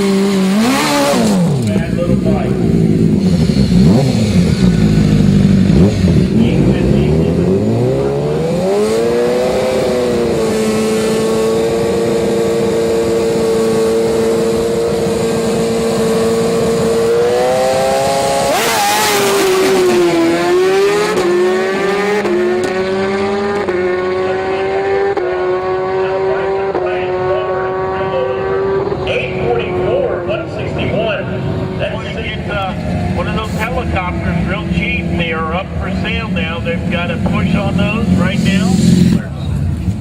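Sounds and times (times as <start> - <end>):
motorcycle engine revving and accelerating: 0.0 - 40.0.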